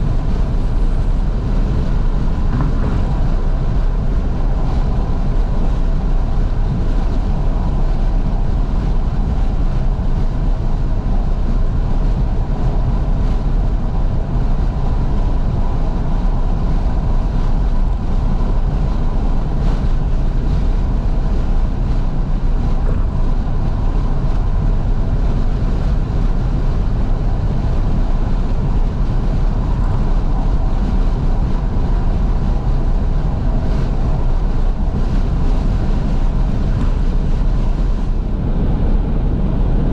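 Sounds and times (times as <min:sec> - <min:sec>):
road noise rumble: 0:00.0 - 0:39.9
wind rushing through car windows: 0:00.0 - 0:39.9.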